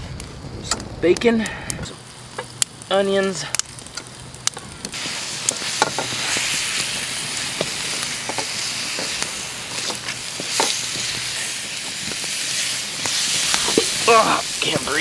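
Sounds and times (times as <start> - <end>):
bacon and onions sizzling: 0.3 - 15.0.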